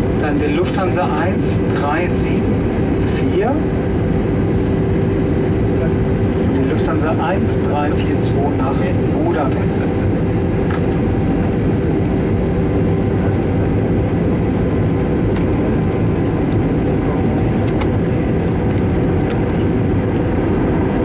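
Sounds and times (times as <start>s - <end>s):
aircraft cabin engine and airflow rush: 0.0s - 21.0s.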